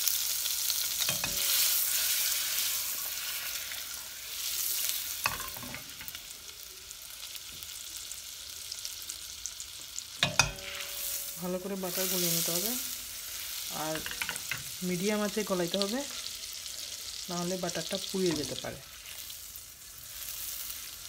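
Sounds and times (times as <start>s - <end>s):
butter sizzling in a saucepan: 0.0s - 21.0s.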